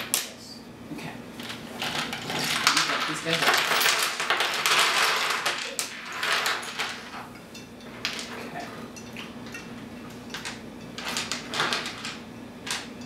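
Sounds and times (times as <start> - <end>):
steady low hum: 0.0 - 3.4, 4.1 - 13.0.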